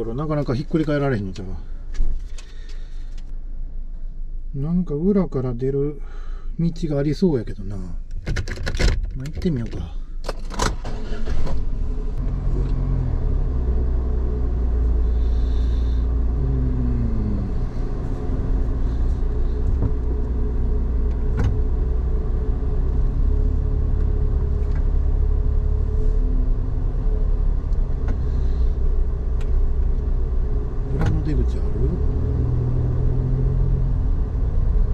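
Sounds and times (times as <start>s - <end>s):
car engine and road rumble: 0.0s - 34.9s.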